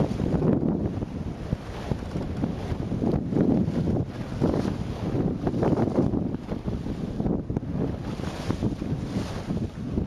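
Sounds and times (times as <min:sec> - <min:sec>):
water rushing along boat hull: 0:00.0 - 0:10.0
wind buffeting microphone: 0:00.0 - 0:10.0.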